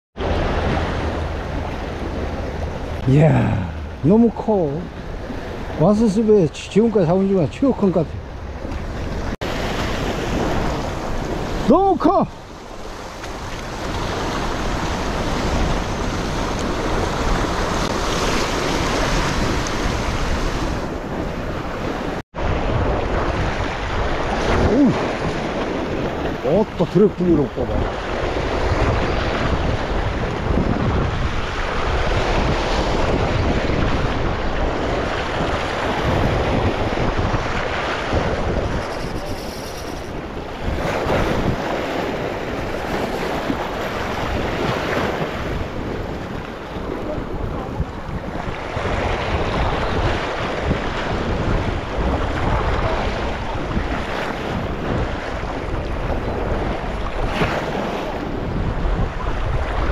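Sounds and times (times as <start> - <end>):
wind buffeting microphone: 0.2 - 59.9.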